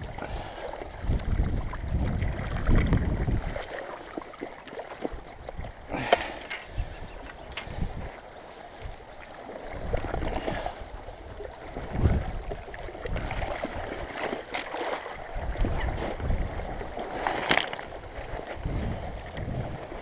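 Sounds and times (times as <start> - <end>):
river water sloshing: 0.0 - 20.0.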